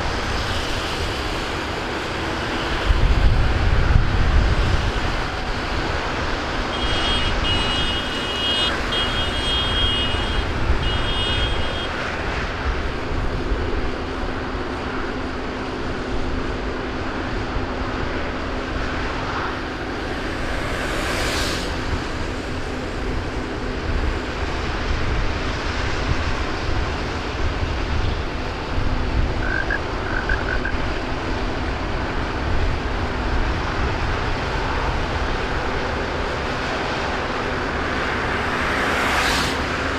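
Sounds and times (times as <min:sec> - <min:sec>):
tractor diesel engines droning: 0:00.0 - 0:39.9.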